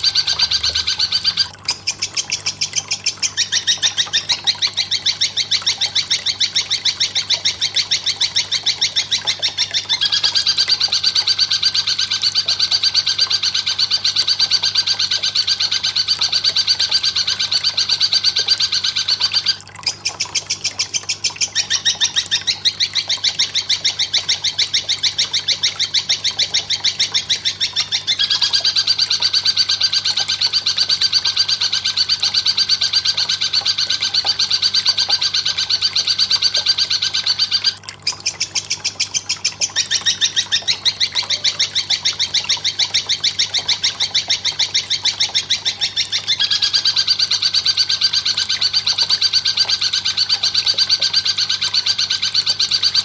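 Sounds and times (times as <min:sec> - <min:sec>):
faint steady hum: 0:00.0 - 0:53.0
rapid chattering bird call: 0:00.0 - 0:53.0.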